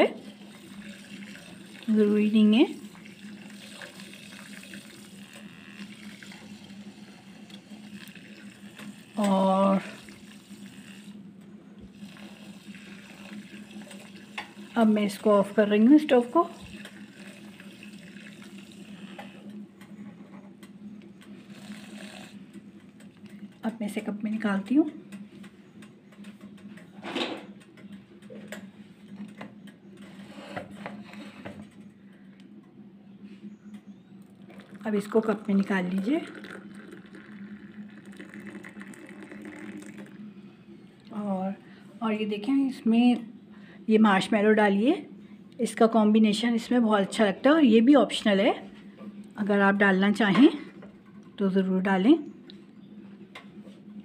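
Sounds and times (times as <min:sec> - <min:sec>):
frother motor hum: 0:00.0 - 0:44.4.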